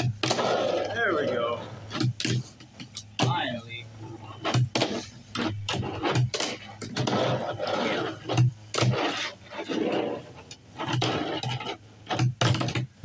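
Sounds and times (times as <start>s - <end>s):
small wheels rolling and scraping: 0.0s - 2.6s, 4.4s - 12.8s.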